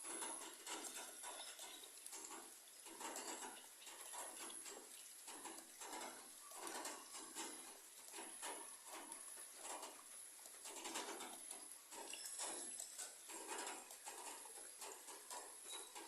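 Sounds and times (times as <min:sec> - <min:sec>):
faint rain hiss: 0:00.0 - 0:16.0
raindrops patting on leaves: 0:00.0 - 0:16.0.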